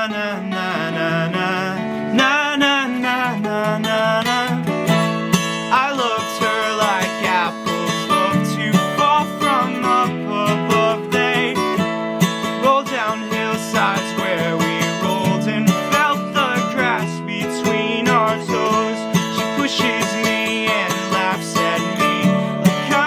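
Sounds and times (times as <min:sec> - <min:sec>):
acoustic guitar strumming: 0:00.0 - 0:23.0
person singing: 0:00.0 - 0:23.0.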